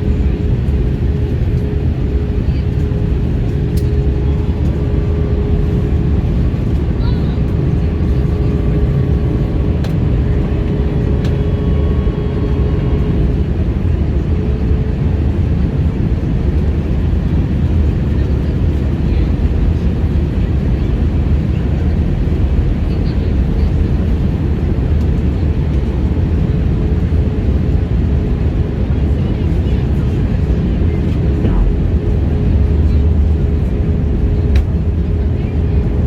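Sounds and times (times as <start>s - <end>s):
airliner cabin roar: 0.0s - 36.0s.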